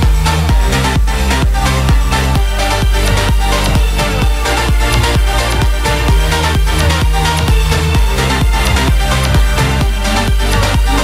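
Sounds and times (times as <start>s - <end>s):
electro house music: 0.0s - 11.0s.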